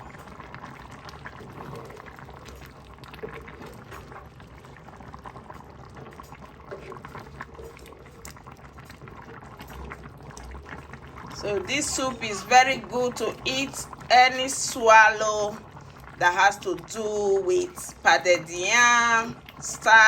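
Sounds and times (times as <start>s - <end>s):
thick soup boiling and popping: 0.0s - 20.0s.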